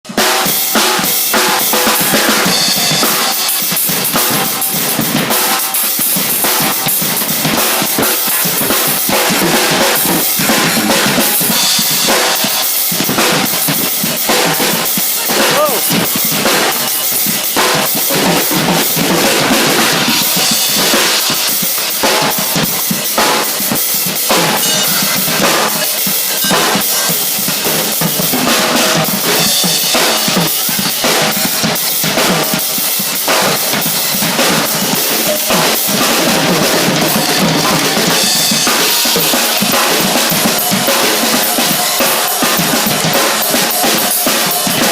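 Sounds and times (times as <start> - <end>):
percussion group drumming: 0.1 - 44.9.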